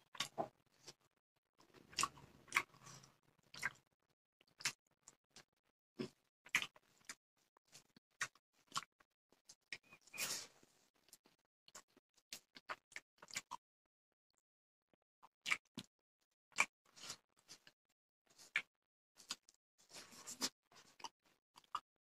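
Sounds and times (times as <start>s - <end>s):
person chewing with wet smacks: 0.0s - 1.0s, 1.6s - 10.0s, 11.0s - 13.6s, 15.4s - 15.9s, 16.5s - 21.8s.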